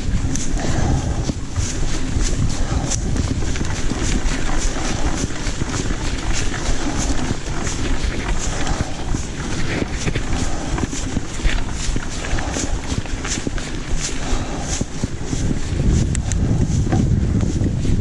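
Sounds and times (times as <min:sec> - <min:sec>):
steady low rumble: 0:00.0 - 0:18.0
wind buffeting microphone: 0:00.0 - 0:18.0.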